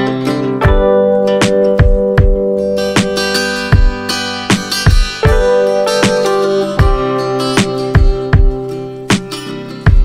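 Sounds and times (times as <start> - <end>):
guitar music: 0.0 - 10.0.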